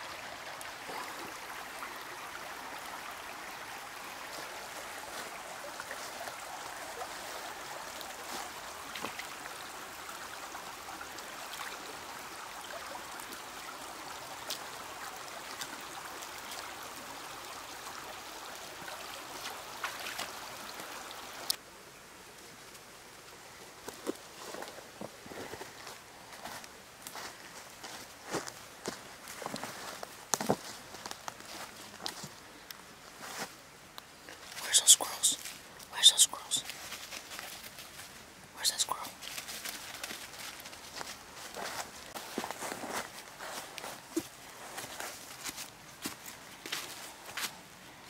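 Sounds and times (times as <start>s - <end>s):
water trickling over stones: 0.0s - 48.0s.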